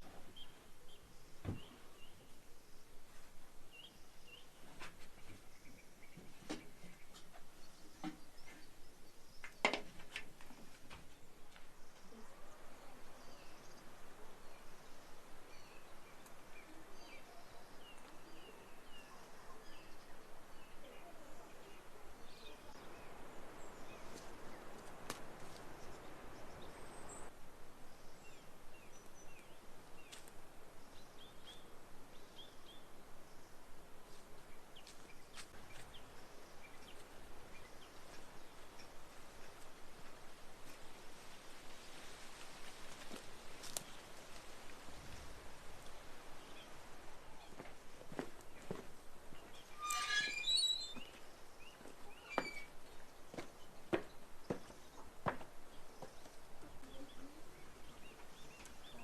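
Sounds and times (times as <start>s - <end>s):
background hiss: 0.0s - 59.0s
small birds chirping: 0.0s - 59.0s.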